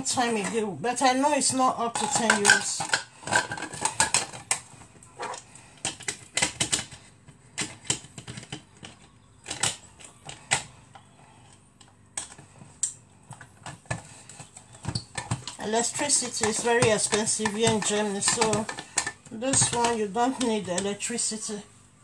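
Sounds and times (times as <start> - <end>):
hard objects clicking and tapping: 1.5 - 21.0.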